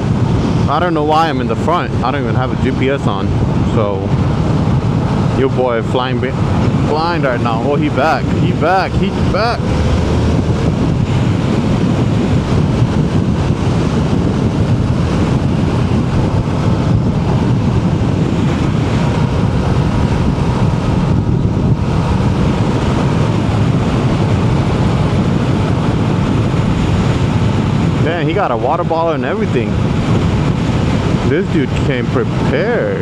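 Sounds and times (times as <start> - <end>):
motorcycle engine drone: 0.0 - 33.0
wind rush on microphone: 0.0 - 33.0.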